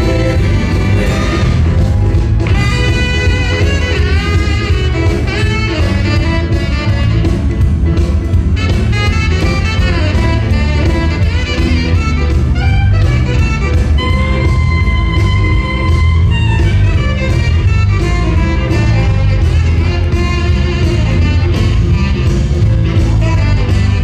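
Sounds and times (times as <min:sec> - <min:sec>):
up-tempo jive music: 0:00.0 - 0:24.0.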